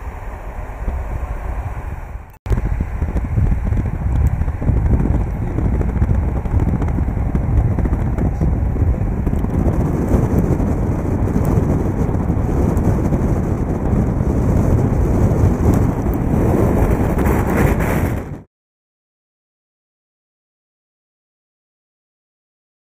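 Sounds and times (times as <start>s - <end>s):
wind rushing past car: 0.0s - 18.5s.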